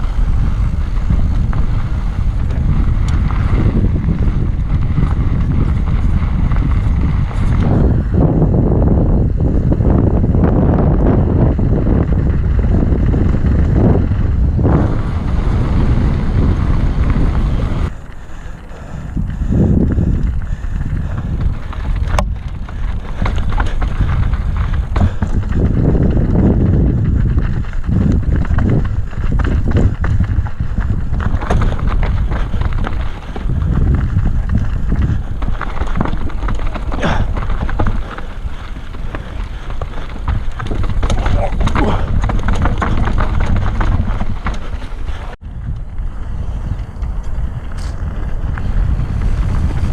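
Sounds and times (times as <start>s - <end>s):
mountain bike rattling on rough trail: 0.0s - 49.9s
wind buffeting microphone: 0.0s - 49.9s.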